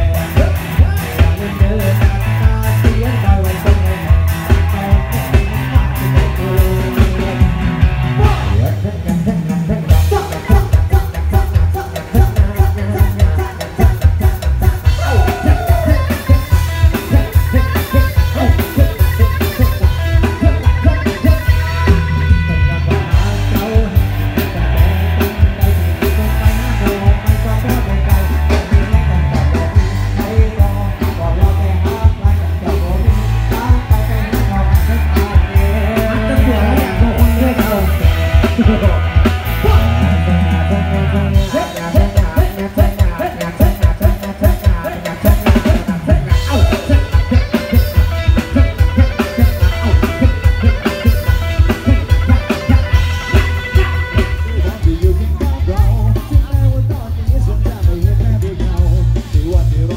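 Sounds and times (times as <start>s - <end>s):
drum kit: 0.0s - 59.9s
electric guitars: 0.0s - 59.9s
heavy bass: 0.0s - 59.9s
live band playing amplified music: 0.0s - 59.9s
person singing: 0.0s - 59.9s.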